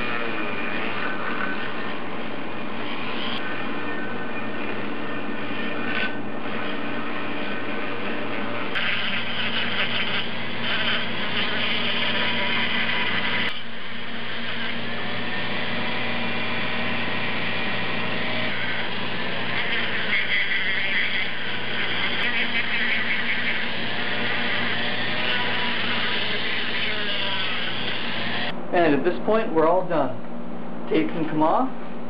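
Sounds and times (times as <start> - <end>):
rotary tool humming: 0.0 - 28.6.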